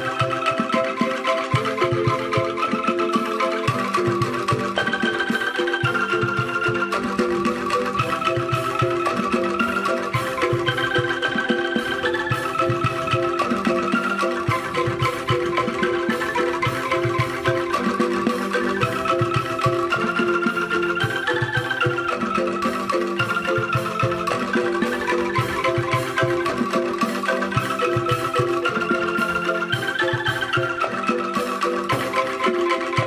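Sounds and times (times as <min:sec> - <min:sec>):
busy percussive beat: 0:00.0 - 0:33.0
mallet percussion melody: 0:00.0 - 0:33.0.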